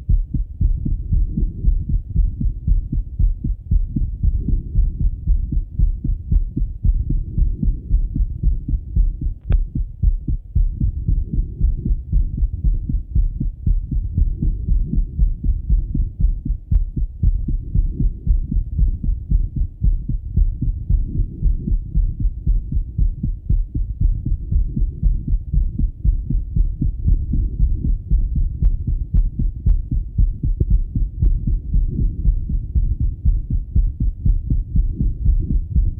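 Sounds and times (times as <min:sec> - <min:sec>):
heartbeat through stethoscope: 0:00.0 - 0:35.9.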